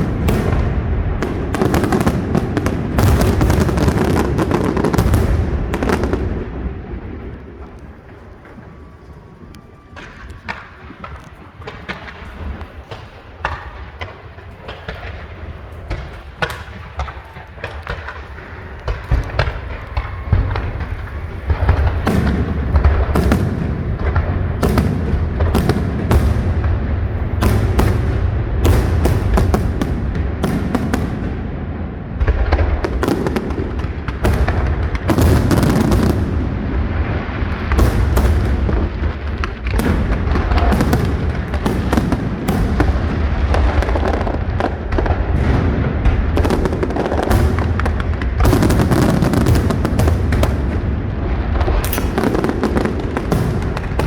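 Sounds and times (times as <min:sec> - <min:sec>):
deep rumble of fireworks booms: 0:00.0 - 0:54.0
fireworks bangs and crackles: 0:00.0 - 0:54.0.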